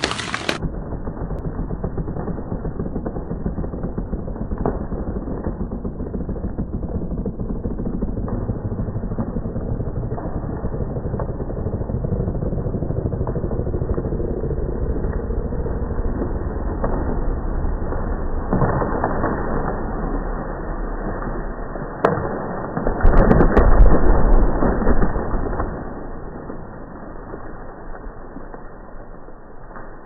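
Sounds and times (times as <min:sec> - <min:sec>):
low rumble of tree falling: 0:00.0 - 0:30.0
sharp wood cracks: 0:00.0 - 0:30.0.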